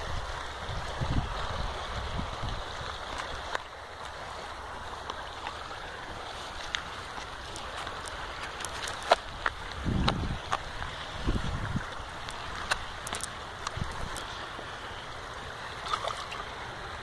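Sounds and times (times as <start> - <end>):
water lapping against wall: 0.0 - 17.0.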